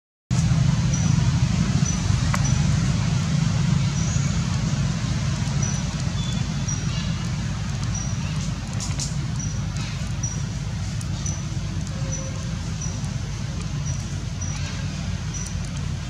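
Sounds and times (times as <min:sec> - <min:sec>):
steady low rumble: 0:00.3 - 0:16.0.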